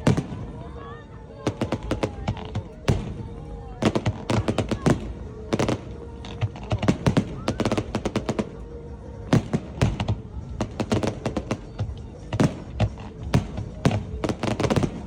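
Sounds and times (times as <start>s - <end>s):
fireworks bangs: 0.0s - 0.8s, 1.4s - 15.0s.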